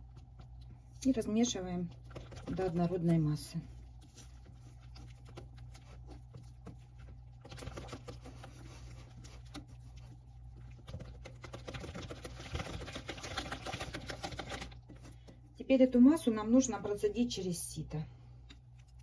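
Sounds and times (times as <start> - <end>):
whisk stirring batter in glass bowl: 0.0 - 15.4.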